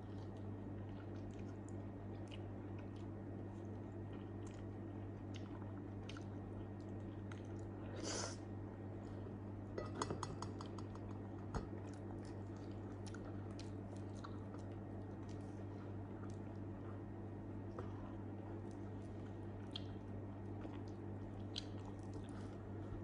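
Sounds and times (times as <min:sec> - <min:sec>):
steady low hum: 0:00.0 - 0:23.0
wet chewing: 0:00.1 - 0:07.9, 0:10.4 - 0:17.0, 0:17.6 - 0:23.0.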